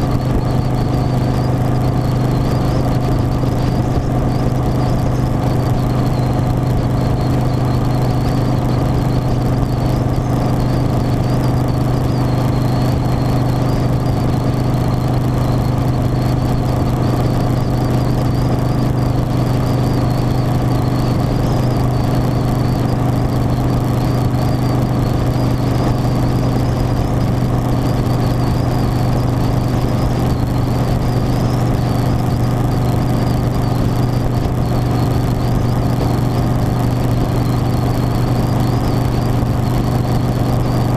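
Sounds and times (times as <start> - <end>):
high whine: 0.0 - 40.9
motorcycle engine cruising: 0.0 - 40.9.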